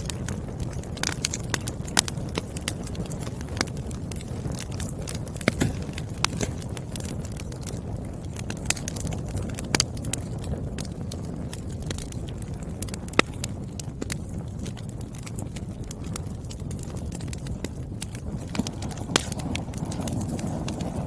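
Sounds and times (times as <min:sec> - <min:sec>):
burning logs rumbling: 0:00.0 - 0:21.0
firewood popping and snapping: 0:00.0 - 0:21.0.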